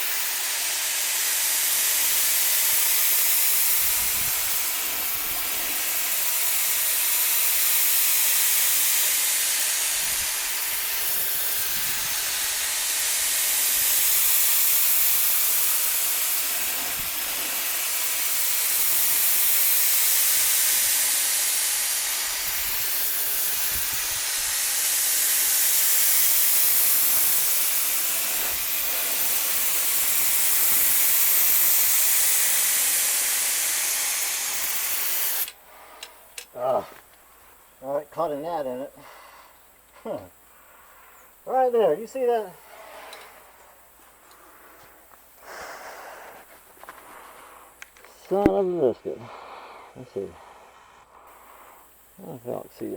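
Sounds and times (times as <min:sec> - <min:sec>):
spray gun hissing: 0:00.0 - 0:36.8, 0:41.0 - 0:52.9.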